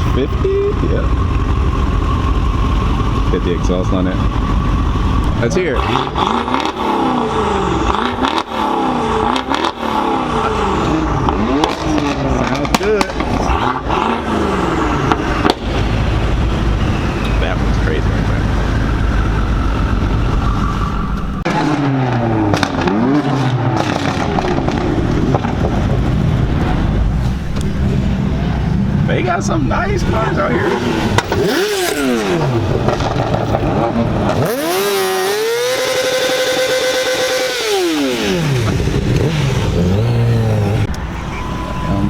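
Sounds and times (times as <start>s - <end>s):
sharp exhaust cracks: 0.0s - 42.0s
vehicle engine revving: 0.0s - 42.0s.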